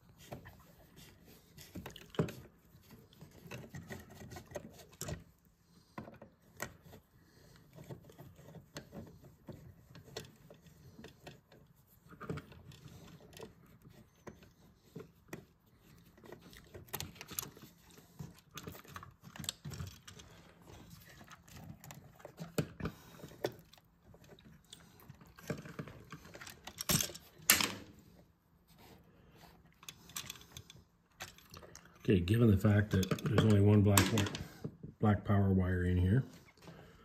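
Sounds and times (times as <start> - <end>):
small metal clicks and scrapes: 0.0 - 27.8, 29.4 - 34.4.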